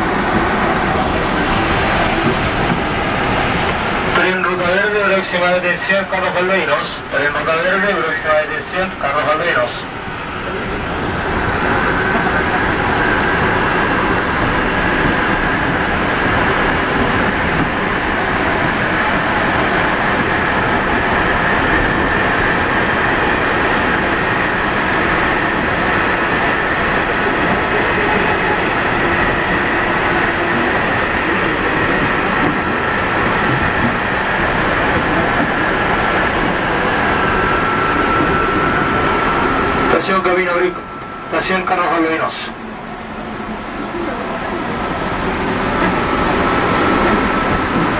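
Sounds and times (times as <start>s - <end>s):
metro train running with whine: 0.0s - 47.9s.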